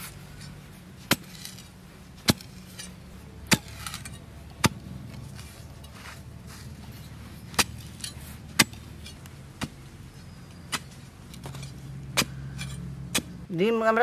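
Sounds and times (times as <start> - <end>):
iron tool striking dry soil: 0.0 - 13.5
low steady hum: 0.0 - 14.0.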